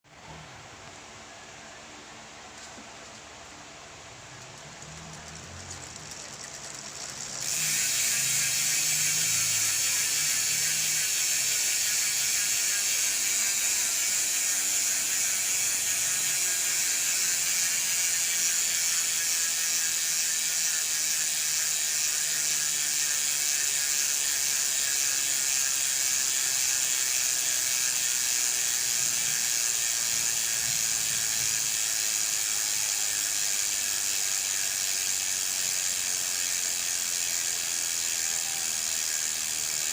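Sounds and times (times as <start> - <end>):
bicycle freehub ratcheting buzz: 4.4 - 39.9.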